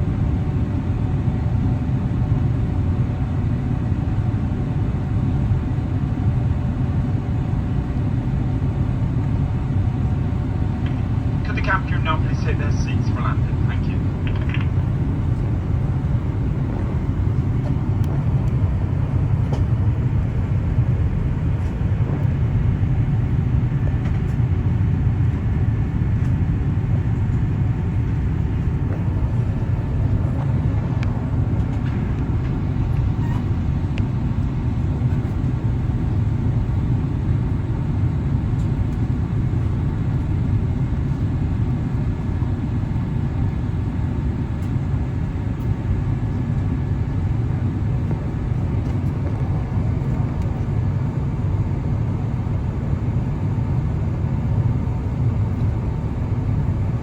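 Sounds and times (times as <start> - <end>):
aircraft cabin low rumble: 0.0 - 57.0.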